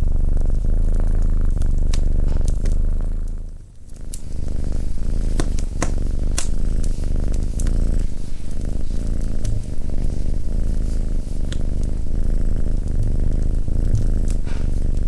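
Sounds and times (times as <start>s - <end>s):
cat purring: 0.0s - 15.0s
wood fire crackling and popping: 0.1s - 15.0s.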